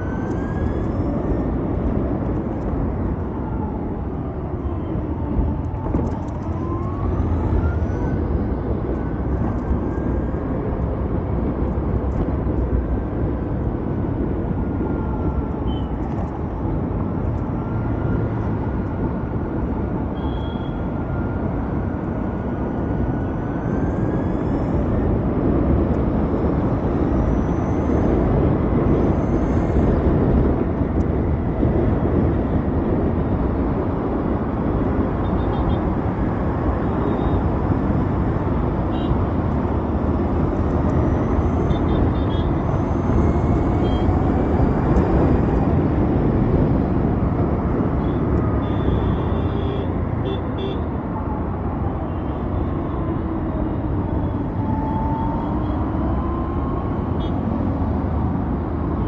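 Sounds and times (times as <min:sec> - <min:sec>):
wind rush and road noise: 0:00.0 - 0:59.0.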